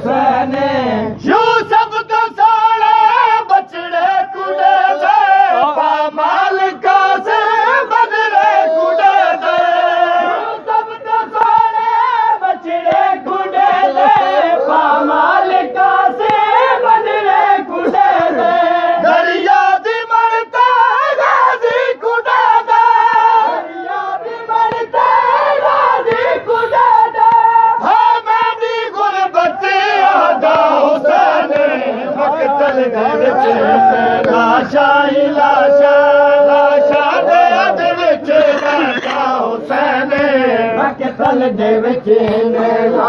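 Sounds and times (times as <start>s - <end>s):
voices chanting in chorus: 0.0s - 43.0s.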